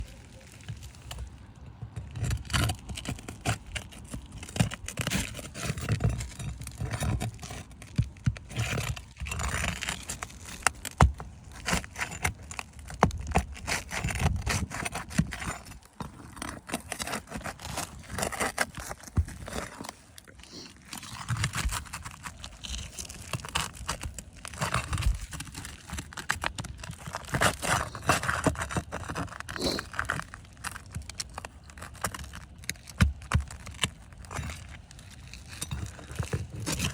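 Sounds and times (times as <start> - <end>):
handling noises: 0.0 - 36.9.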